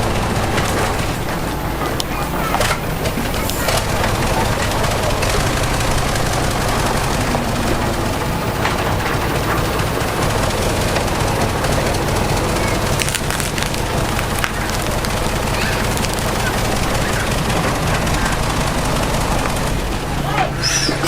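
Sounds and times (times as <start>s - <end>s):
diesel machinery engine running: 0.0s - 21.0s.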